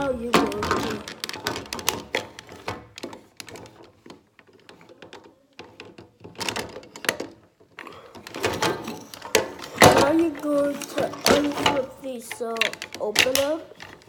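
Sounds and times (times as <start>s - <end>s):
plastic toy parts clicking: 0.0s - 14.0s.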